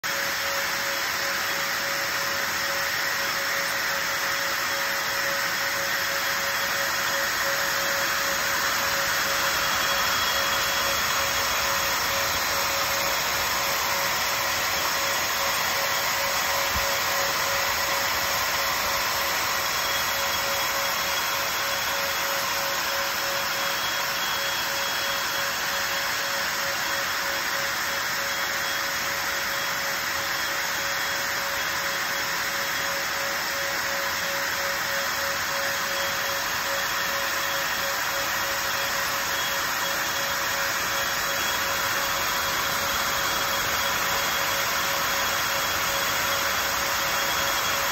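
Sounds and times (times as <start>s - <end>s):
printer whirring hiss with whine: 0.0s - 47.9s.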